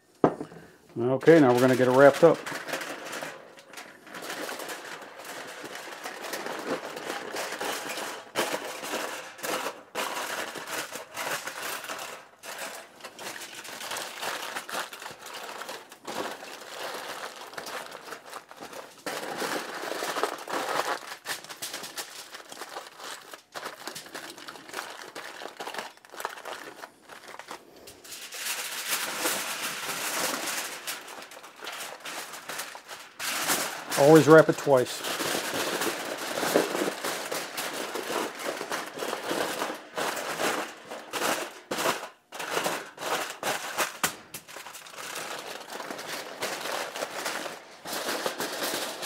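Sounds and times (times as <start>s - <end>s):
aluminium foil crinkling: 0.0s - 49.0s.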